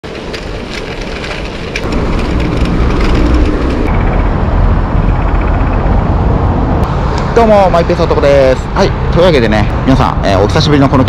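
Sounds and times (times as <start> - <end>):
wind buffeting microphone: 0.0 - 10.7
bicycle road noise rumble: 0.0 - 11.0.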